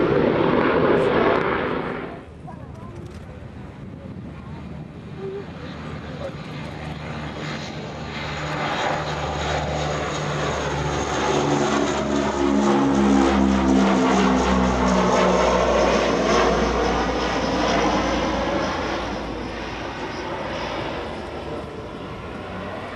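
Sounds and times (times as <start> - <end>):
turboprop aircraft droning: 0.0 - 22.9.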